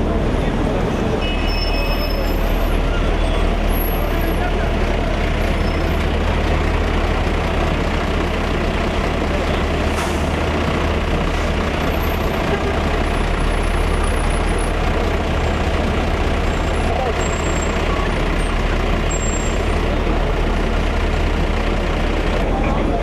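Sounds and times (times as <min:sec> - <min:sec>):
heavy vehicle engines rumbling: 0:00.0 - 0:23.0.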